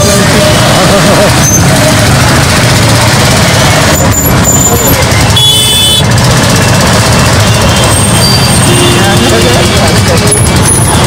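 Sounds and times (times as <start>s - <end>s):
truck and vehicle engines: 0.0s - 11.0s.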